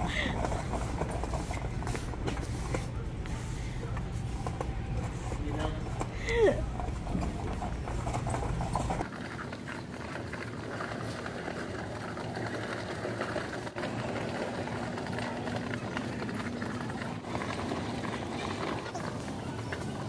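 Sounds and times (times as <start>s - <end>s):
metal cart wheels rattling on concrete: 0.0s - 3.1s, 4.4s - 20.0s.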